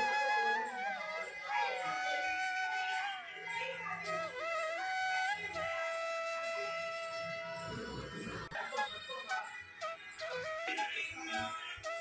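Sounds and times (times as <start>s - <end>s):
flute melody: 0.0s - 12.0s.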